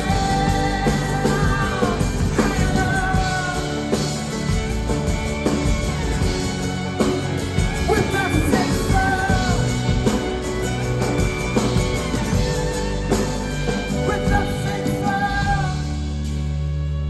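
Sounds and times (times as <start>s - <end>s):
drum hits: 0.0s - 15.8s
bass notes: 0.0s - 17.0s.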